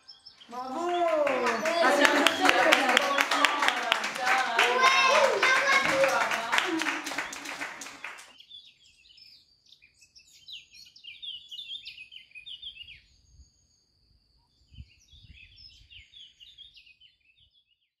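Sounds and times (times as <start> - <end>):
small birds chirping: 0.0 - 6.6, 7.2 - 18.0.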